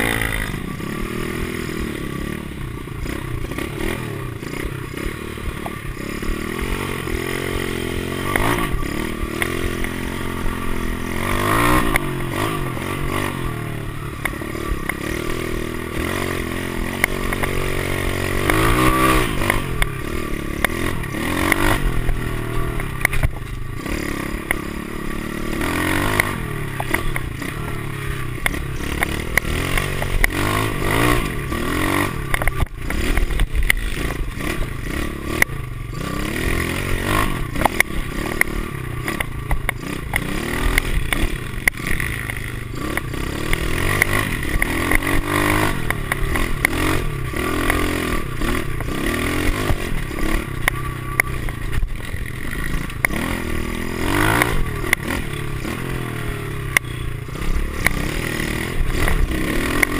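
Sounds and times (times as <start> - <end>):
bike knocking and rattling: 0.0 - 59.9
dirt bike engine revving: 0.0 - 59.9.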